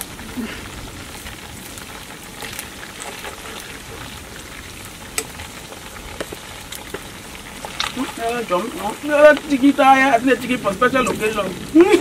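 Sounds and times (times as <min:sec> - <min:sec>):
chicken sizzling in hot oil: 0:00.0 - 0:12.0
oil popping: 0:00.0 - 0:12.0.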